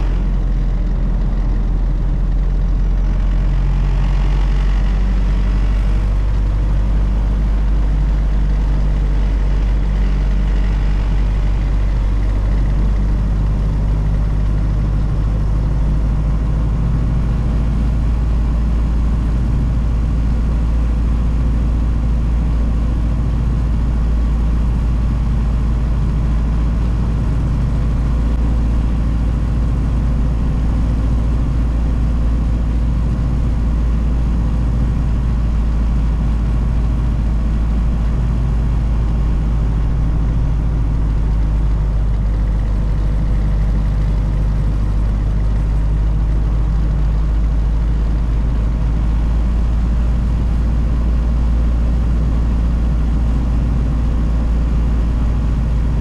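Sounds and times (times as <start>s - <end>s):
car engine running: 0.0s - 56.0s
road rumble: 0.0s - 56.0s.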